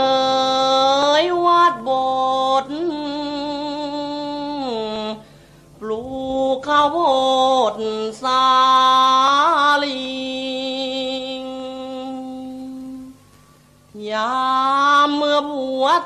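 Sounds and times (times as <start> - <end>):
person chanting: 0.0 - 5.2, 5.8 - 13.2, 14.0 - 16.0.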